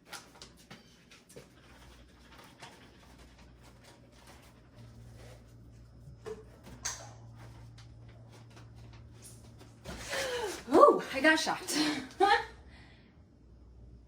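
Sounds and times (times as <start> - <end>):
steady low hum: 0.7 - 14.0.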